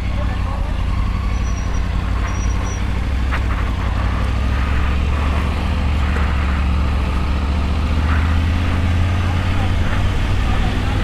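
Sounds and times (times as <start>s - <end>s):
motorcycle engine low drone: 0.0s - 11.0s.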